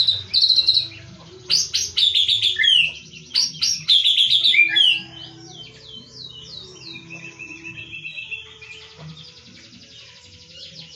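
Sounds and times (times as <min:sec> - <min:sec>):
bird singing trilled phrases: 0:00.0 - 0:10.9.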